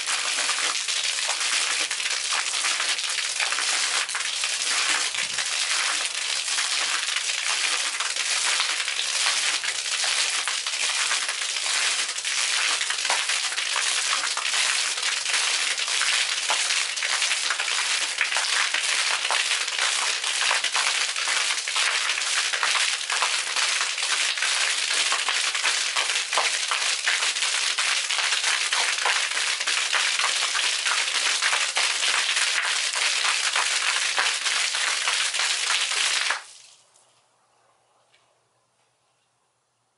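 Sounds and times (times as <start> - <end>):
fountain water splashing on concrete: 0.0 - 36.8.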